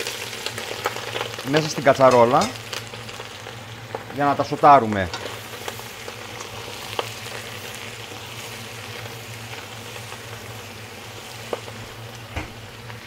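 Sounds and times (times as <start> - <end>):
shrimp shells sizzling in oil: 0.0 - 13.0.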